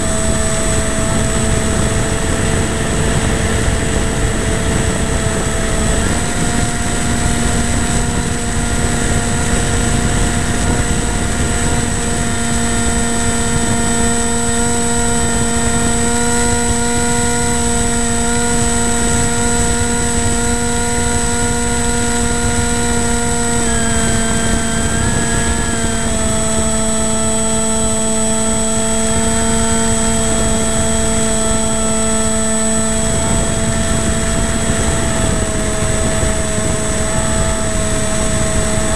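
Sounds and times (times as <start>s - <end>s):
model aircraft motor and propeller: 0.0s - 38.9s
wind rushing over microphone: 0.0s - 38.9s.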